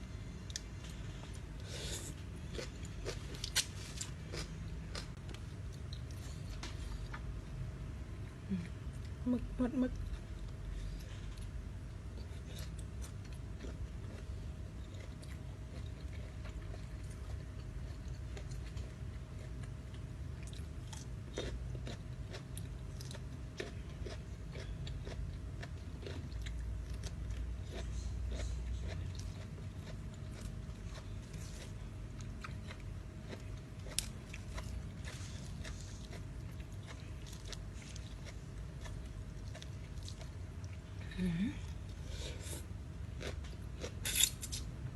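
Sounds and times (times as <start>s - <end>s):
person chewing crunchy food: 0.3s - 7.2s, 10.0s - 41.0s, 41.8s - 44.7s.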